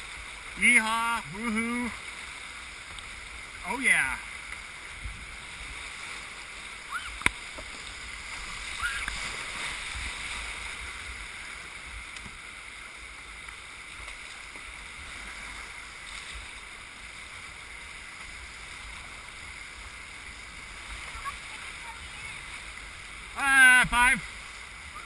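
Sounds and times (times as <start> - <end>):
river whitewater rushing: 0.0 - 25.0.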